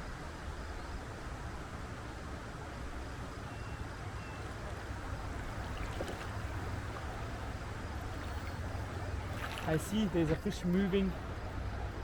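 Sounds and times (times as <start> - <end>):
stream rushing water: 1.2 - 12.0.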